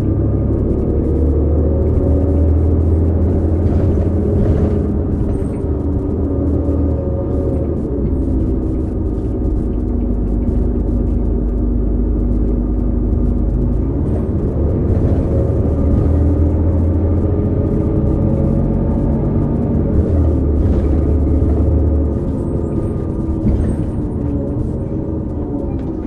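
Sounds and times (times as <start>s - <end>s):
diesel bus engine rumble: 0.0s - 26.0s
transmission whining tones: 0.0s - 26.0s.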